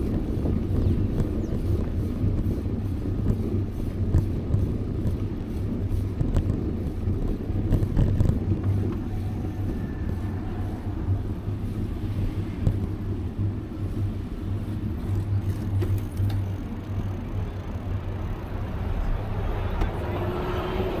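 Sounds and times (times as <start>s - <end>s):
bicycle road noise: 0.0s - 21.0s
wind rumble on microphone: 0.0s - 21.0s.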